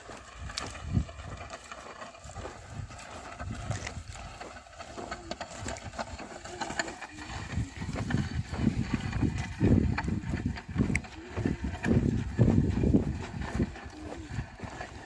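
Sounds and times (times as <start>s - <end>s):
hoof thuds: 0.0s - 15.0s.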